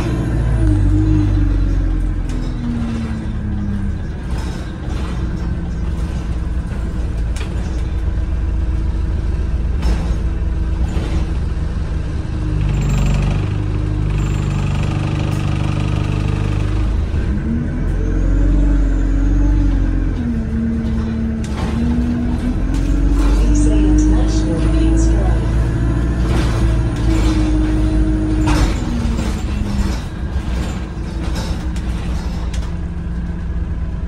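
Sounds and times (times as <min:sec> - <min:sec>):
bus body rattling: 0:00.0 - 0:34.0
bus diesel engine droning: 0:00.0 - 0:34.0.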